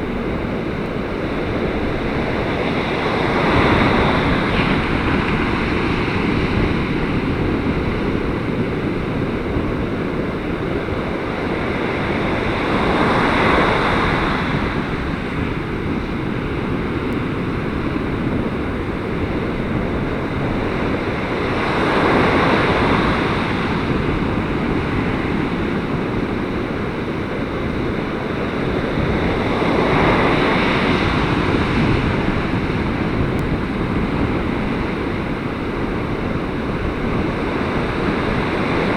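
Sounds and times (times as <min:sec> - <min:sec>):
wind buffeting microphone: 0:00.0 - 0:38.9
waves breaking on beach: 0:00.1 - 0:38.9.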